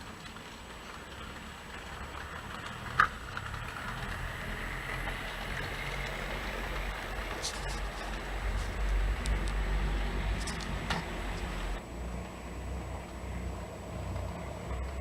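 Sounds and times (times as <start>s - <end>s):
model train rumbling: 0.0s - 15.0s
wheels ticking over rails: 0.0s - 15.0s.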